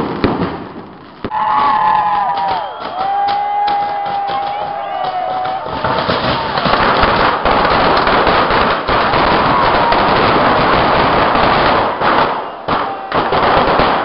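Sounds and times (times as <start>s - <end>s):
firecrackers crackling: 0.0s - 14.0s.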